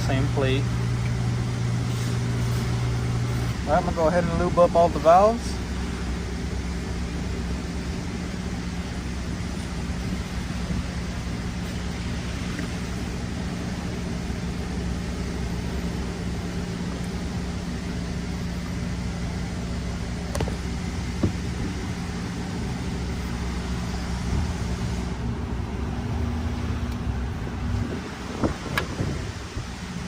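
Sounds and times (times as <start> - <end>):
machine hum and hiss: 0.0 - 30.0.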